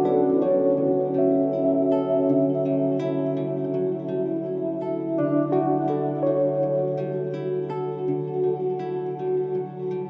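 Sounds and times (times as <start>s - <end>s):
calm instrumental music: 0.0s - 10.0s.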